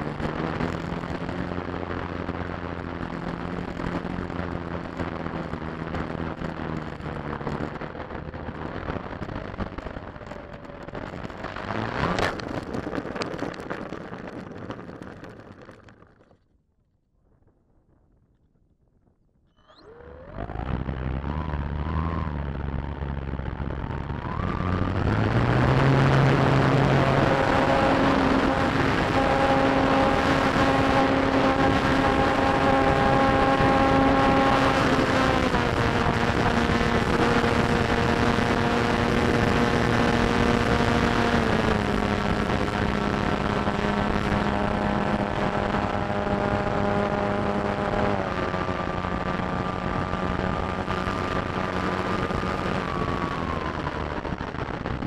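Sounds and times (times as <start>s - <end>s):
model airplane motor and propeller: 0.0s - 16.5s, 19.5s - 55.0s.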